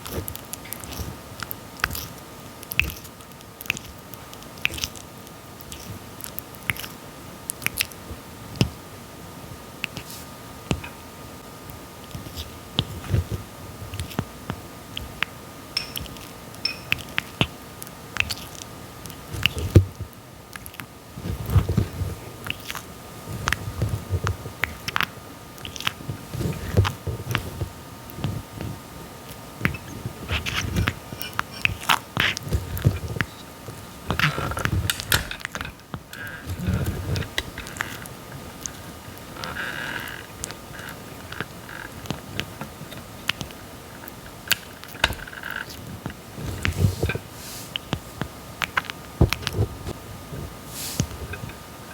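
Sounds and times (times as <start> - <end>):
tortoise biting and chewing: 0.0 - 8.7, 14.9 - 51.4.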